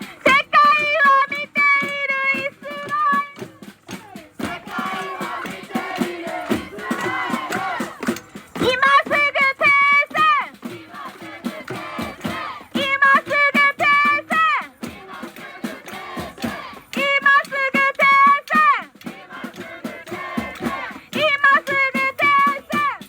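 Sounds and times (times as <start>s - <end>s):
crowd voices answering: 0.0s - 23.0s.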